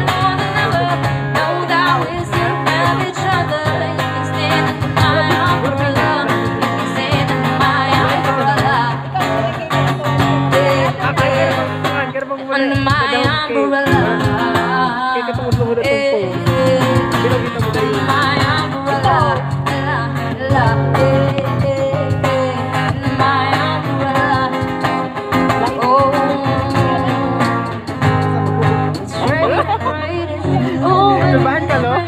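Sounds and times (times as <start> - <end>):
person singing: 0.0 - 32.0
strummed acoustic guitar: 0.0 - 32.0.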